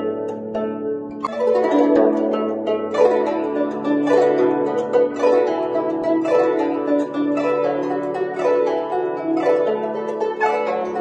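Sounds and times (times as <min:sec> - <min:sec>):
plucked guzheng notes: 0:00.0 - 0:11.0.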